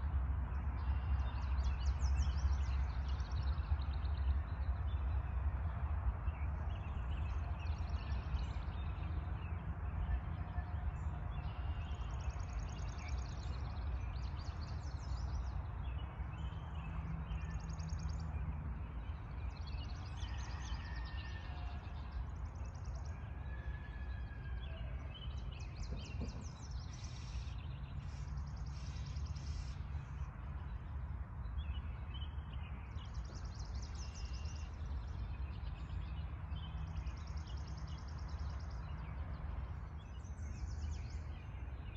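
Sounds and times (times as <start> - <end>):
birds singing: 6.3 - 41.9.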